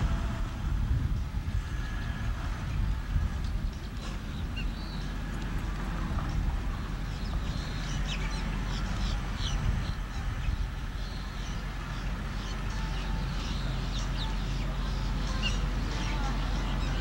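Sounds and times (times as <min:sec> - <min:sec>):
low uneven rumble: 0:00.0 - 0:17.0
birds chirping: 0:01.6 - 0:17.0.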